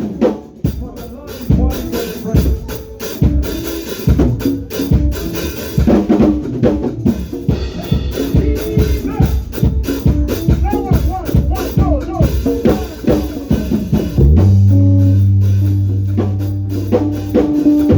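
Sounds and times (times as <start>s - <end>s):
drum kit driving beat: 0.0s - 17.9s
praise band music: 0.0s - 17.9s.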